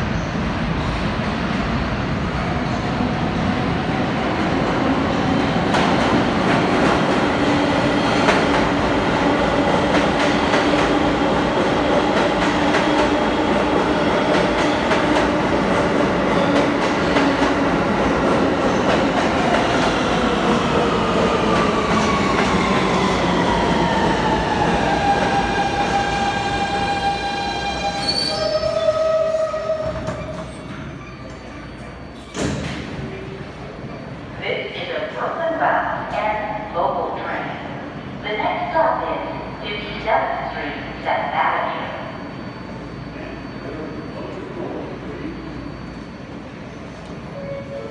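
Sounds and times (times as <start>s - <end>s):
train wheels rumbling and squealing: 2.5s - 34.4s, 40.6s - 47.9s.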